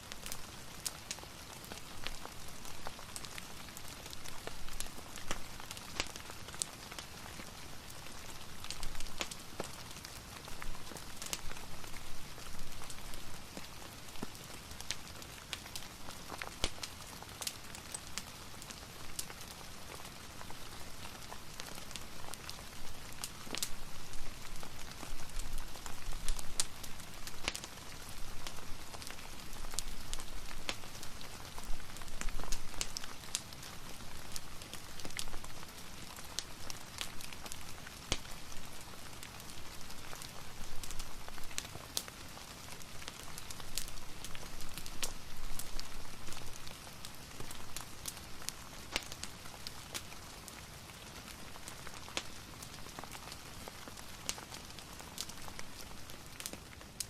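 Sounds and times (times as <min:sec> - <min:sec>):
fire crackling: 0:00.0 - 0:57.0
steady rain hiss: 0:00.0 - 0:57.0.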